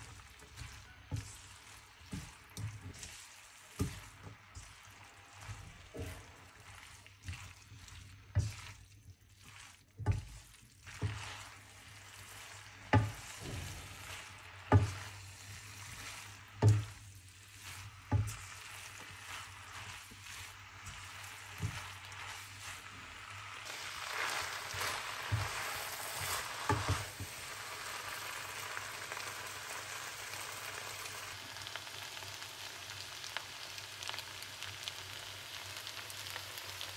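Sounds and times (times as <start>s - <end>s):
noodles sizzling in a wok: 0.0s - 36.9s.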